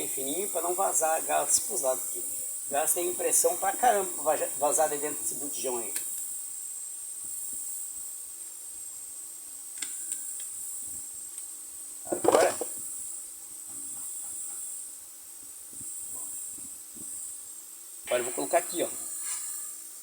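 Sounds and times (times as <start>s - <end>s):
air hissing from a tube: 0.0s - 20.0s
compressor running: 0.0s - 20.0s.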